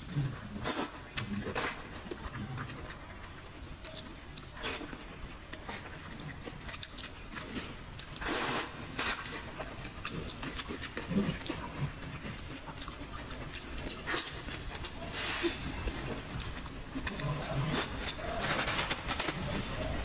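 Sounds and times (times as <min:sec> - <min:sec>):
chewing with wet mouth smacks: 0:00.0 - 0:20.0.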